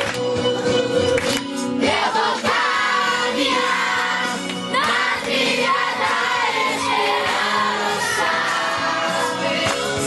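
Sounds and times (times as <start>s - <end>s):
music: 0.0s - 10.0s
group singing a religious song: 1.8s - 10.0s.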